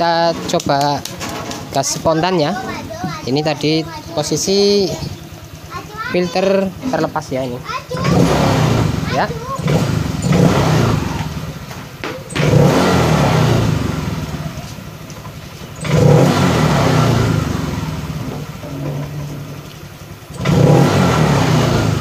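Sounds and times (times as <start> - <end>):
scooter engine revving: 0.0 - 22.0.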